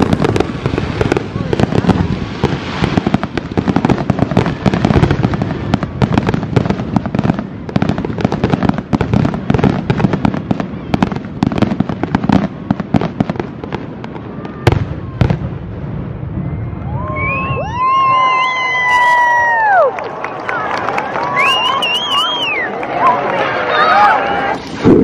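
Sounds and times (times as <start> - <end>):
fireworks bangs and crackles: 0.0 - 19.8, 24.0 - 25.0.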